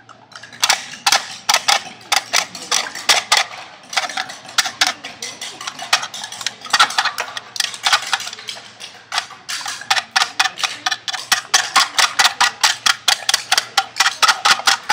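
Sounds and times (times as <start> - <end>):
fingers scratching and tapping a can: 0.6 - 14.9.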